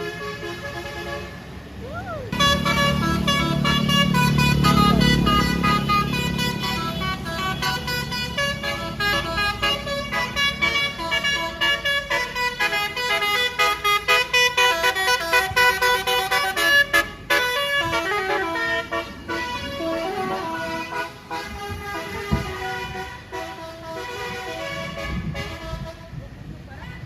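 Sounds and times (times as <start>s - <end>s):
bus multi-tone air horn melody: 0.0s - 1.6s, 2.3s - 26.2s.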